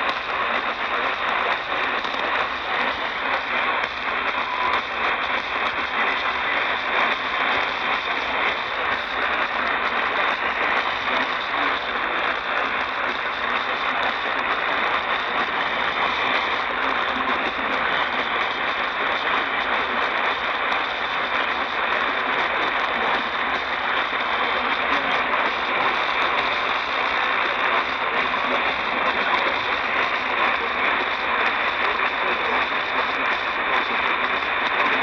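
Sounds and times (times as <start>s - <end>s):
faint crackle: 0.0s - 35.0s
radio static hiss: 0.0s - 35.0s.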